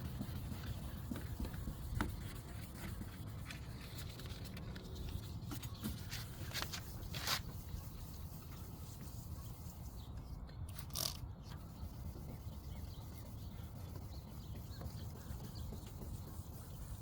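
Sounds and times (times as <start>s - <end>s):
sandpaper rubbing on plastic: 0.0s - 10.1s, 11.7s - 17.0s.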